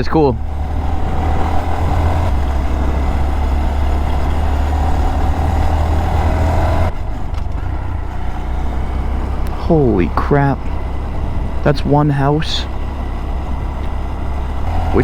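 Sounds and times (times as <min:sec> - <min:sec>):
small motorcycle engine cruising: 0:00.0 - 0:15.0
wind and road noise: 0:00.0 - 0:15.0.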